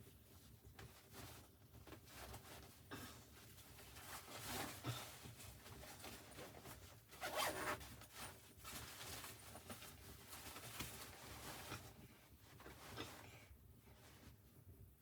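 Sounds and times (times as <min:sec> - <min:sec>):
fabric rustling and scraping: 0:00.3 - 0:14.6.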